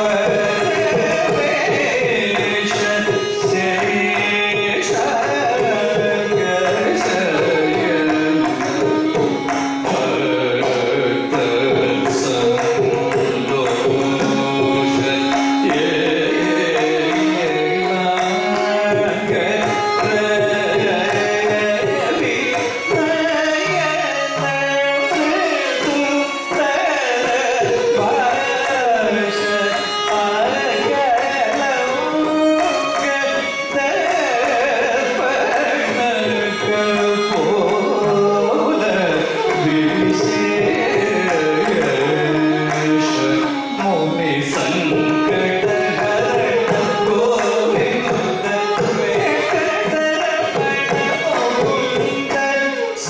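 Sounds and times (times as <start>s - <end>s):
man singing ornamented phrases: 0.0s - 53.0s
mridangam drum rhythm: 0.0s - 53.0s
violin melody: 0.0s - 53.0s.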